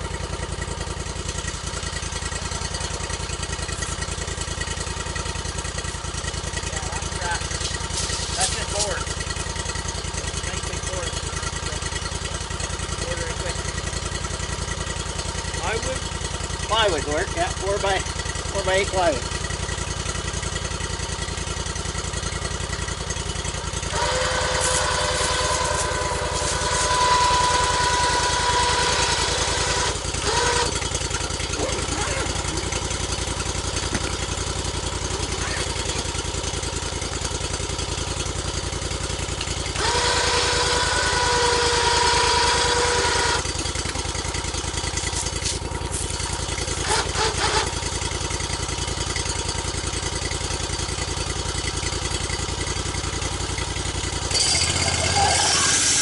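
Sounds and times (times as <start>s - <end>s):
sawmill engine idling: 0.0s - 56.0s.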